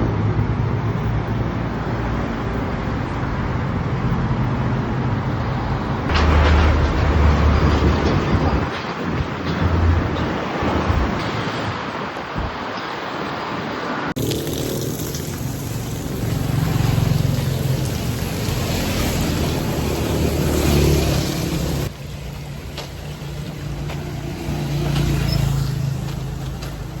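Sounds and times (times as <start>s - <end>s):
car engines passing: 0.0s - 27.0s.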